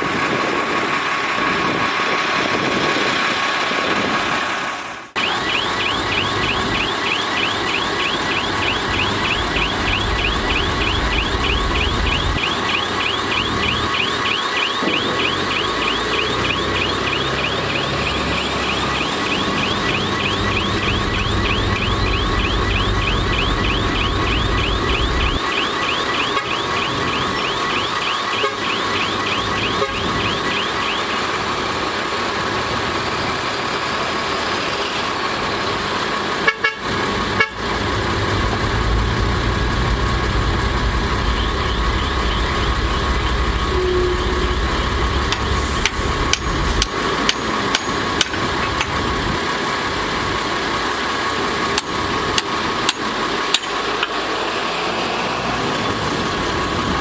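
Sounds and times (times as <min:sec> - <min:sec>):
diesel engines running under load: 0:00.0 - 0:57.0.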